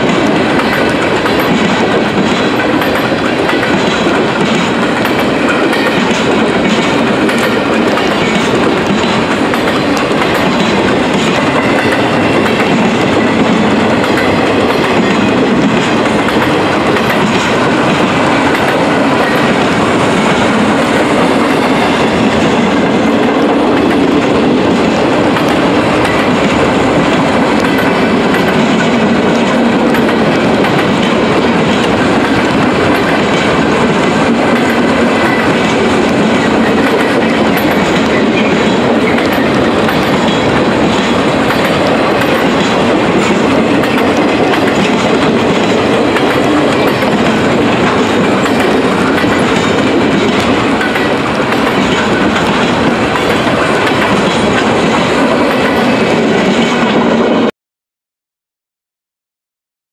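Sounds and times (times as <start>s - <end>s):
wheels clicking over rail joints: 0.0s - 57.0s
freight train wheels rumbling: 0.0s - 57.5s.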